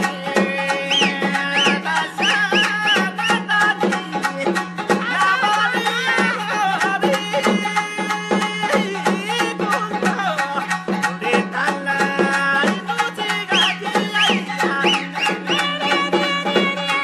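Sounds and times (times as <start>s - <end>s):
folk-style music: 0.0s - 17.0s.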